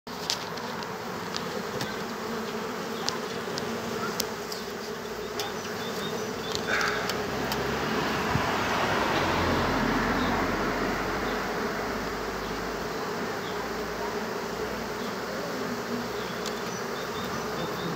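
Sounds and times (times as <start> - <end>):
honeybees buzzing: 0.1 - 17.9.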